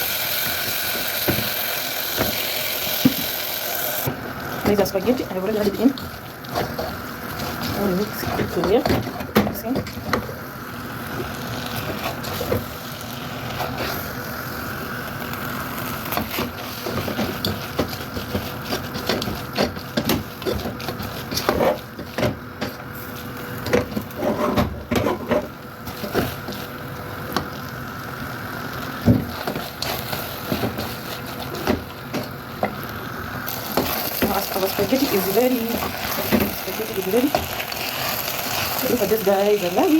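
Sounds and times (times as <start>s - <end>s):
frying sizzle in a pan: 0.0s - 39.9s.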